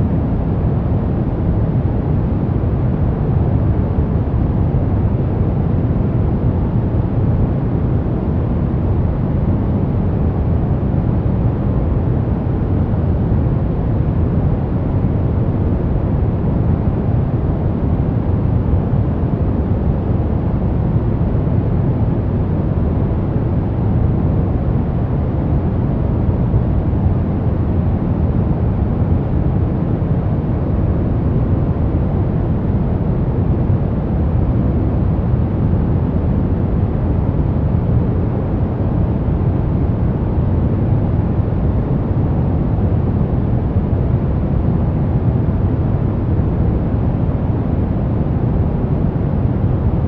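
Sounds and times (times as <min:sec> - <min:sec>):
deep steady white noise: 0:00.0 - 0:50.0.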